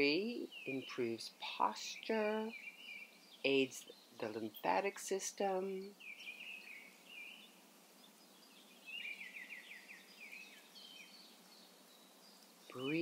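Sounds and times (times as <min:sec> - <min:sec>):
birds chirping: 0:00.0 - 0:13.0
outdoor background hiss: 0:00.0 - 0:13.0.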